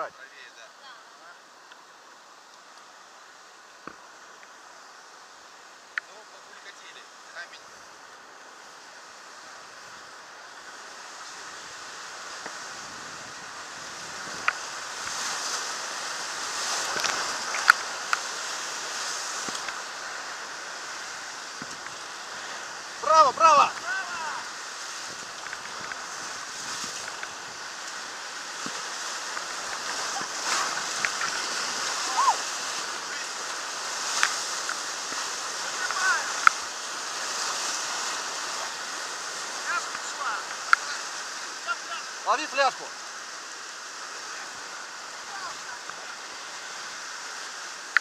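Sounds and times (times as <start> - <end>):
waves splashing: 0.0 - 48.0
whitewater rushing: 0.0 - 48.0.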